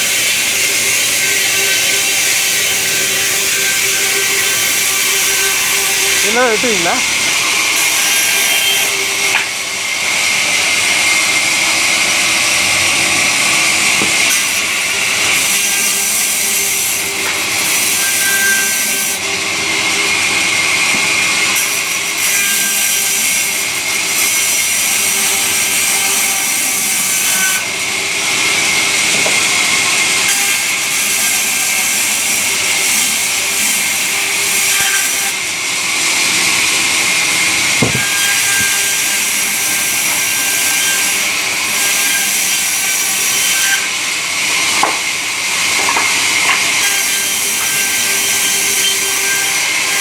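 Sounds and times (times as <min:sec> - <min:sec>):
power saw cutting timber: 0:00.0 - 0:50.0.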